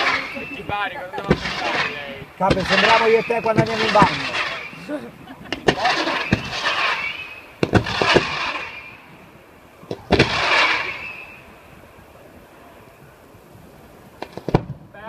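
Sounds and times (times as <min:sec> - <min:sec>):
firework bangs: 0:00.0 - 0:12.0, 0:14.1 - 0:15.0
hissing crackling firework bursts: 0:00.0 - 0:15.0.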